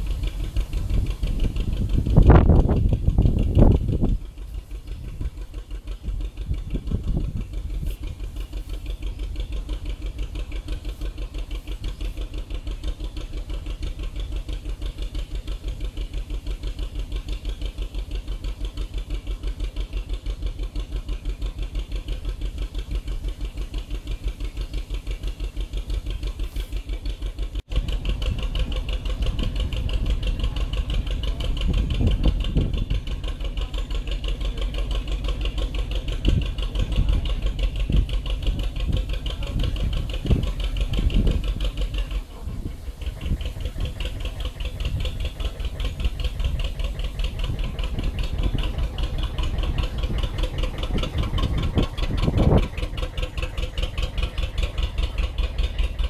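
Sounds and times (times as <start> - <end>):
diesel boat engine running: 0.0 - 56.0.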